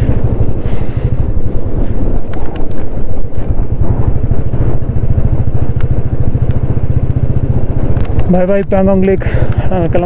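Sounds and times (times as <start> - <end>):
motorcycle engine running: 0.0 - 10.0
sharp ticks: 0.0 - 10.0.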